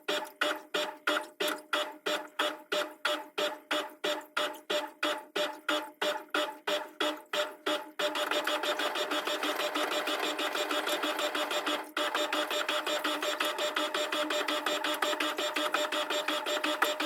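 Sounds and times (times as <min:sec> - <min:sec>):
washing machine whirring and rattling: 0:00.0 - 0:17.0.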